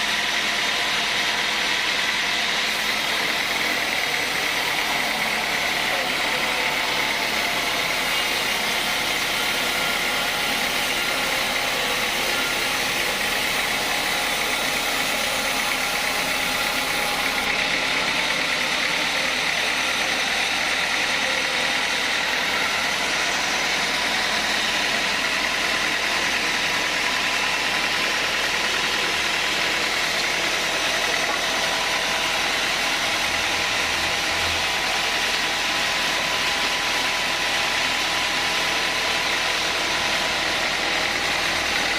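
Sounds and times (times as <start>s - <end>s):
sawmill saw droning with whine: 0.0s - 41.9s.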